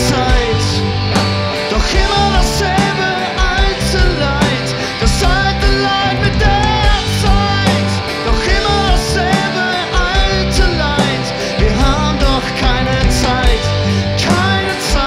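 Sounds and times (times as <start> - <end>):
bass guitar: 0.0 - 15.0
distorted electric guitars: 0.0 - 15.0
drum kit: 0.0 - 15.0.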